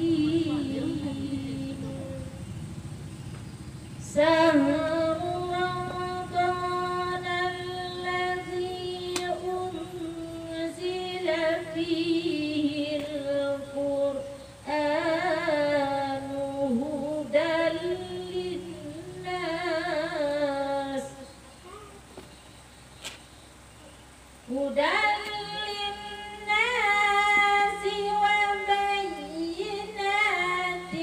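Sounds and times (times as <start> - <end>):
woman chanting into a microphone: 0.0 - 2.5, 4.0 - 21.3, 24.5 - 31.0.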